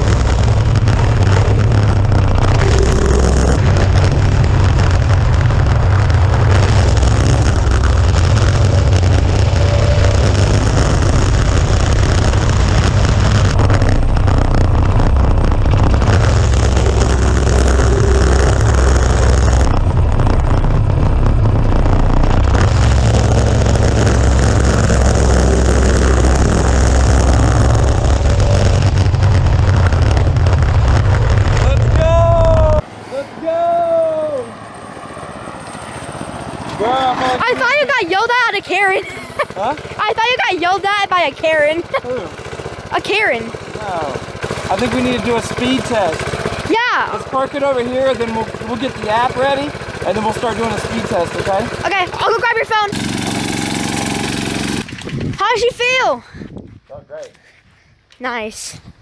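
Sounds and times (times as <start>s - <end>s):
go-kart engine running: 0.0s - 56.2s.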